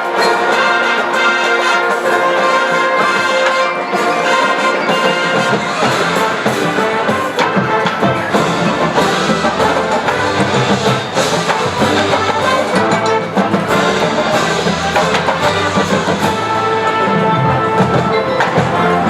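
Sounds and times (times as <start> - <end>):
brass and percussion music: 0.0 - 19.0.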